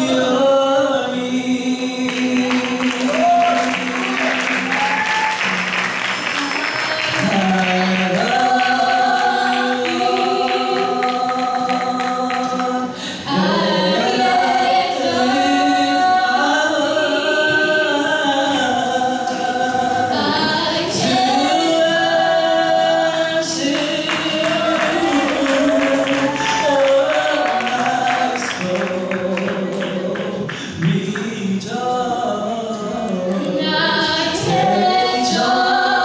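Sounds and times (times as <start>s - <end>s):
musical accompaniment: 0.0s - 36.0s
voices singing gospel song: 0.0s - 36.0s.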